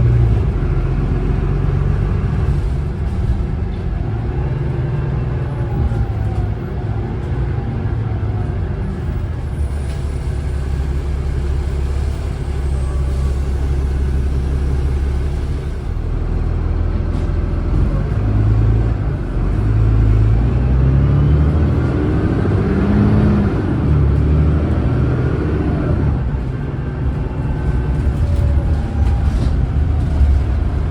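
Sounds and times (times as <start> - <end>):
bus diesel engine running: 0.0 - 30.9.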